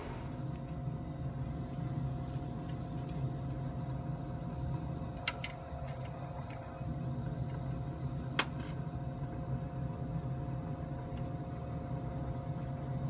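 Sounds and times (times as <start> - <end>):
furnace motor hum: 0.0 - 13.0.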